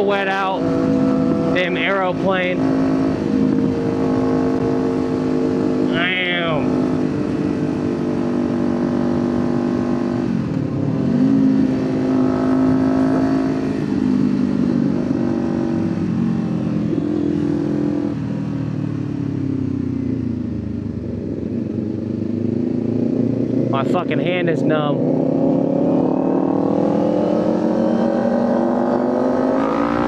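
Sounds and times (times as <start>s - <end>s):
motorcycle engine under way: 0.0s - 30.0s.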